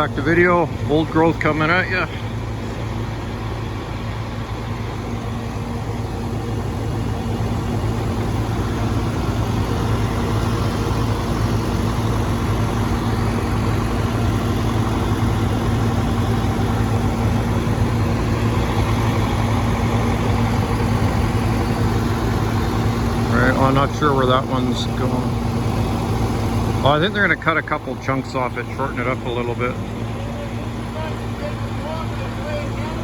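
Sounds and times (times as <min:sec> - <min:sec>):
diesel engine humming: 0:00.0 - 0:33.0.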